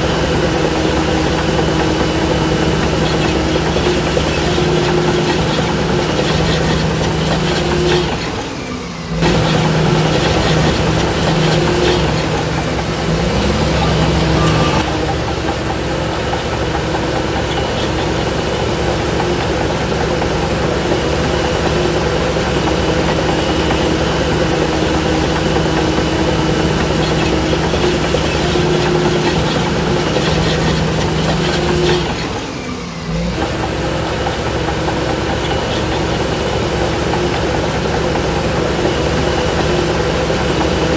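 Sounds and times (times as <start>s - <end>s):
bulldozer engine clattering: 0.0s - 40.9s.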